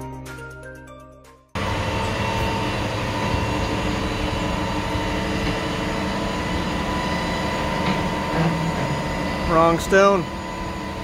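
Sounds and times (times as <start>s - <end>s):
crane whine: 1.6s - 11.0s
diesel engine running: 1.6s - 11.0s.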